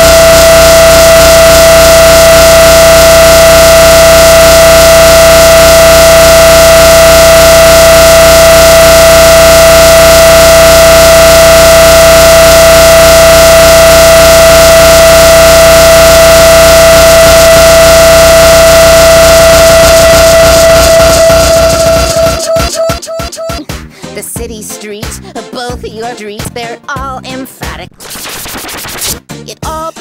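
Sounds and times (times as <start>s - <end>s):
distorted electronic tone: 0.0s - 23.7s, 28.0s - 29.2s.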